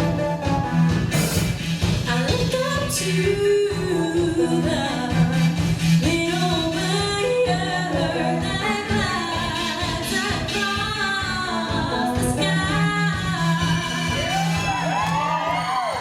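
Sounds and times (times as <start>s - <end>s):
live band music with singing: 0.0s - 16.0s.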